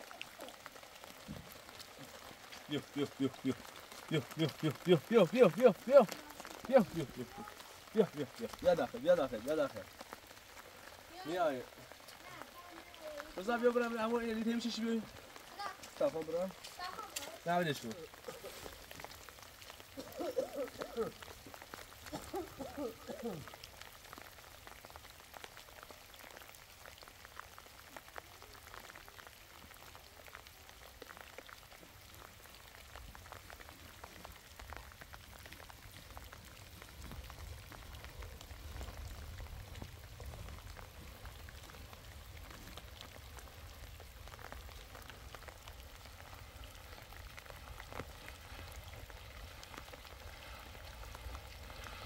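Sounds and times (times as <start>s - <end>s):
light rain falling on road: 0.0s - 52.0s.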